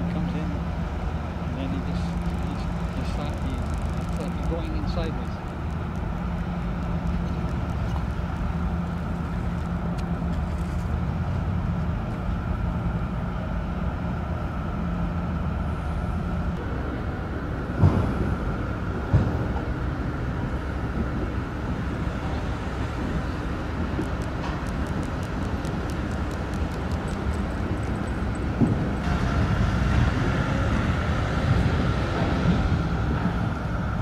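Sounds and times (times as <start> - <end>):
ferry engines humming: 0.0 - 34.0.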